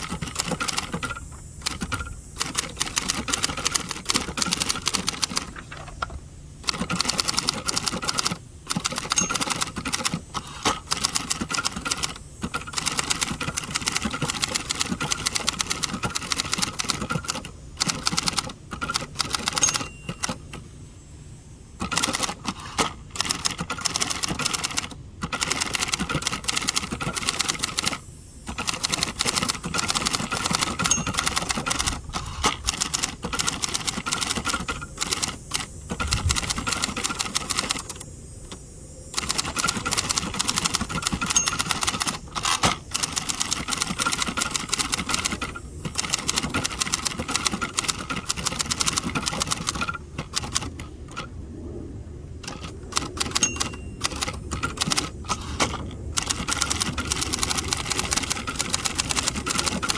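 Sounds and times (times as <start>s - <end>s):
typewriter keystroke clacks: 0.0s - 20.7s, 21.8s - 38.6s, 39.2s - 51.3s, 52.4s - 59.9s.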